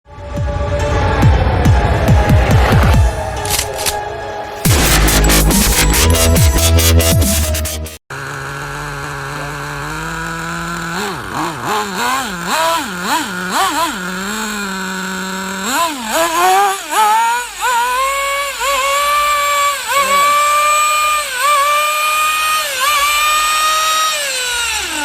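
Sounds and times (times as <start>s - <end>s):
small nitro engine revving: 4.6s - 25.0s.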